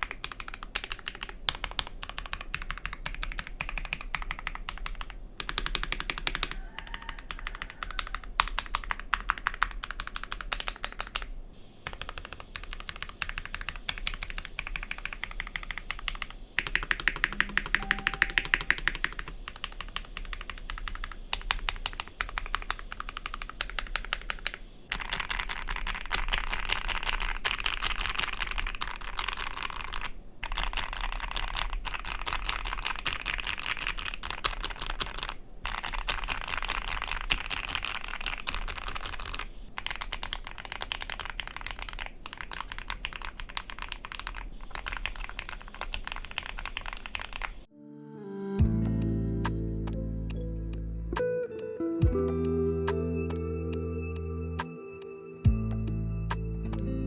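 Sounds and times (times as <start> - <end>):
mechanical keyboard typing: 0.0 - 47.7.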